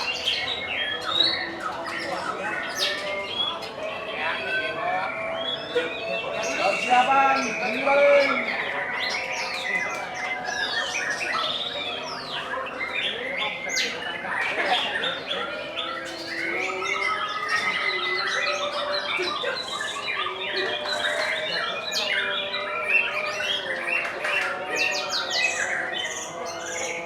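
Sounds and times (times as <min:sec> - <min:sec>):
songbirds chorus: 0:00.0 - 0:27.0.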